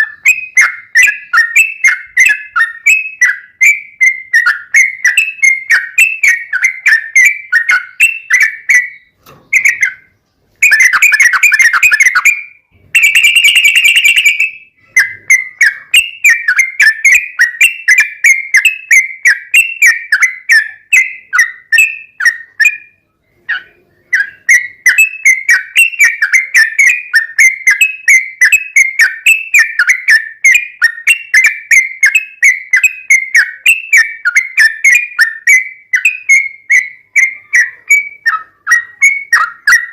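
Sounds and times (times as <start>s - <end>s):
bird whistling repeated notes: 0.0s - 39.9s
loud bird trills: 0.0s - 39.9s.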